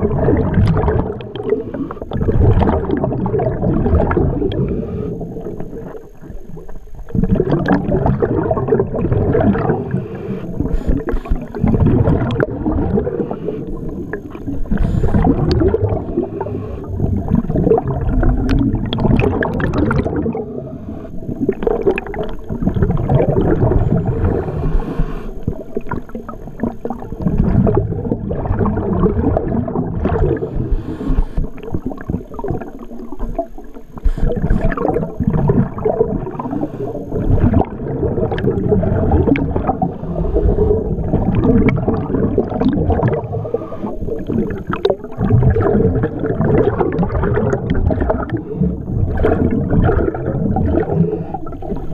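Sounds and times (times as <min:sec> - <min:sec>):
underwater gurgling water: 0:00.0 - 0:51.9.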